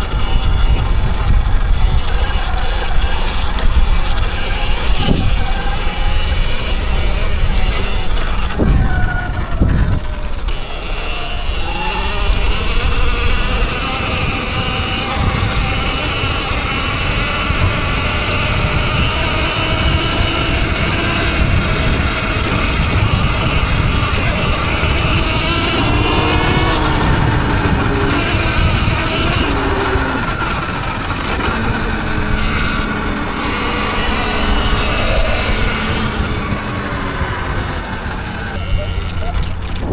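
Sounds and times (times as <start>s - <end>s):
electric dirt bike motor whining: 0.0s - 39.9s
wind rumble on microphone: 0.0s - 39.9s.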